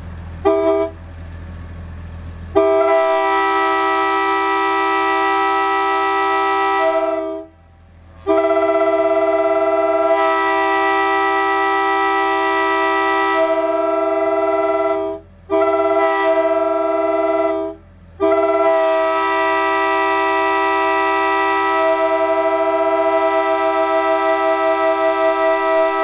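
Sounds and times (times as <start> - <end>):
air horn chord: 0.4 - 1.0, 2.6 - 7.6, 8.2 - 26.0.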